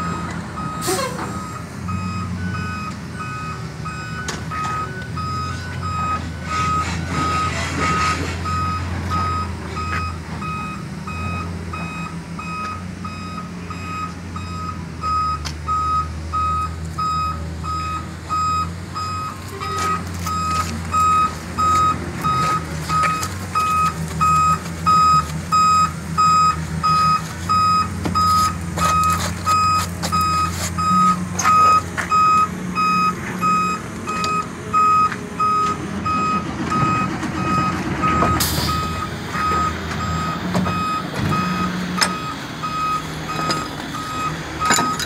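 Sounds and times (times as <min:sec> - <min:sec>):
diesel engine hum: 0:00.0 - 0:45.0
truck backup alarm beeping: 0:00.0 - 0:45.0.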